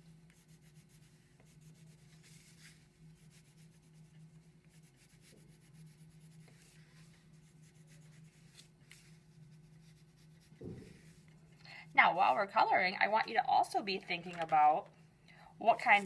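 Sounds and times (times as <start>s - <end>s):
scratchy colouring strokes on paper: 0.0s - 14.8s, 15.6s - 16.0s
steady low hum: 0.0s - 16.0s.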